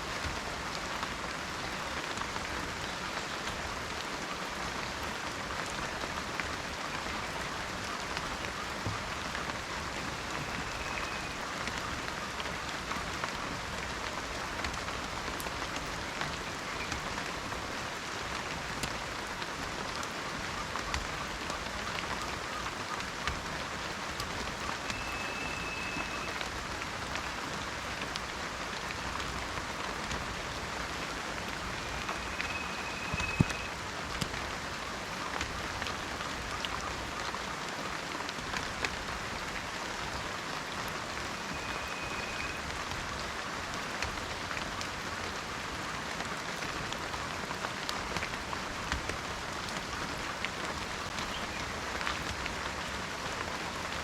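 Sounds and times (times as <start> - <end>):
rain falling in a forest: 0.0 - 54.0.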